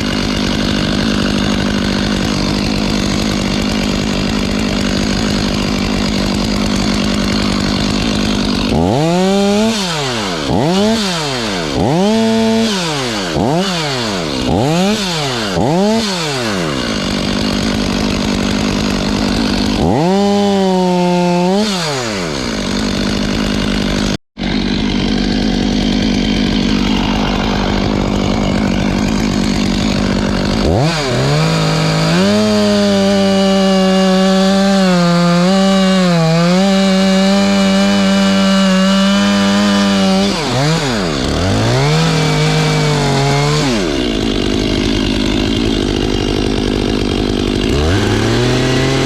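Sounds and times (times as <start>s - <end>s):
chainsaw revving: 0.0s - 49.0s.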